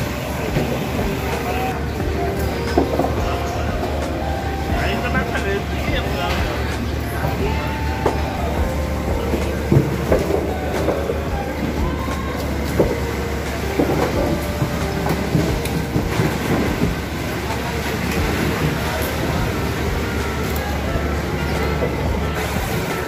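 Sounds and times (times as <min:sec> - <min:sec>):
boat engine droning: 0:00.0 - 0:23.0
knocks of fish and plastic tubs: 0:00.0 - 0:23.0
voices: 0:00.0 - 0:23.0.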